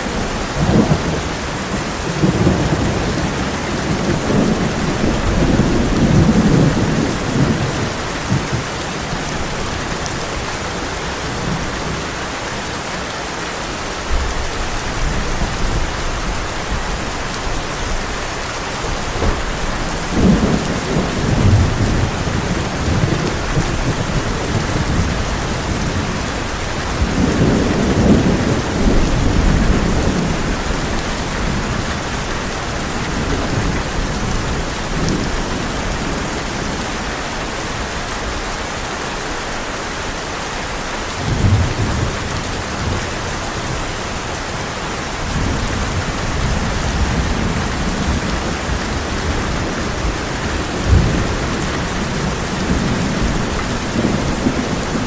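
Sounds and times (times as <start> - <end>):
thunder rumbling: 0.0 - 11.9, 18.8 - 38.0, 41.2 - 55.0
heavy rain on a tin roof: 0.0 - 55.0.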